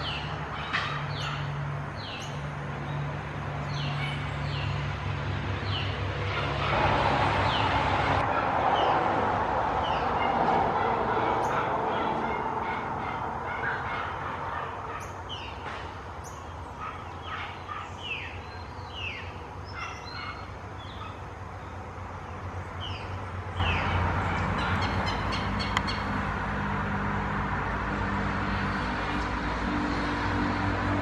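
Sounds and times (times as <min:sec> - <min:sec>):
wild birds chirping: 0:00.0 - 0:26.8.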